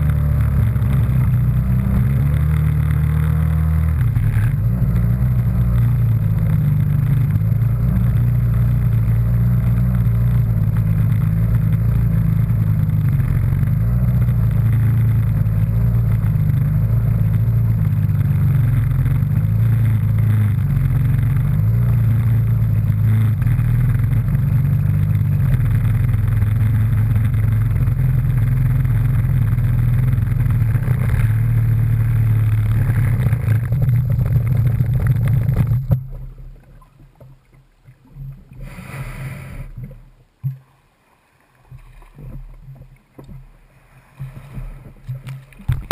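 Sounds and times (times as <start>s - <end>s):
watercraft engine running: 0.0s - 45.9s.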